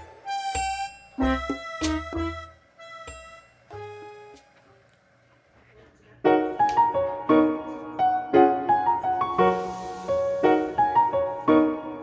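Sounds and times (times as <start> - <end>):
piano music: 0.0 - 4.4, 6.3 - 12.0.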